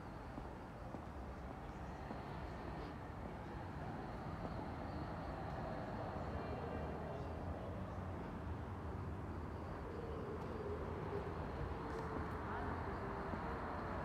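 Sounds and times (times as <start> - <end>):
road traffic rumble: 0.1 - 14.0.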